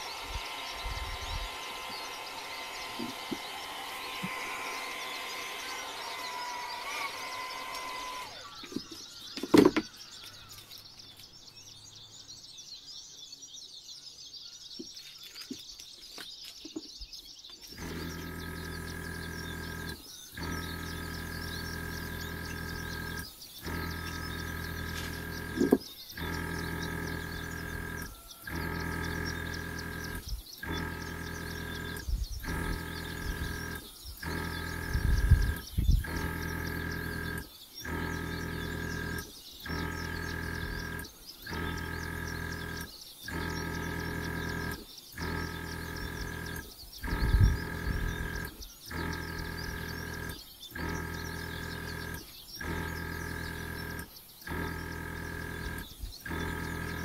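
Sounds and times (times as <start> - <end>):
blow-dryer motor hum: 0.0 - 11.3, 17.6 - 57.0
faint high chirping: 0.0 - 57.0.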